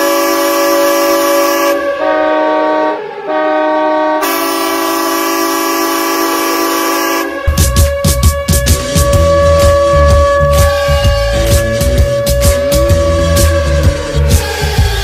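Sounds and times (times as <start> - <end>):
goal horn blasting: 0.0 - 14.4.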